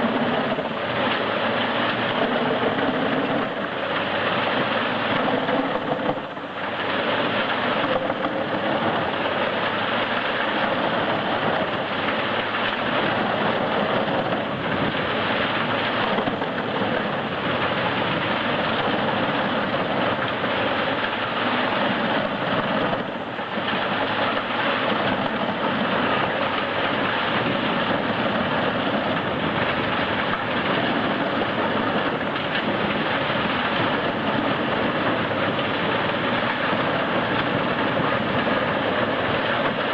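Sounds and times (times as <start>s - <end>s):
wood chipper grinding wood: 0.0s - 39.9s.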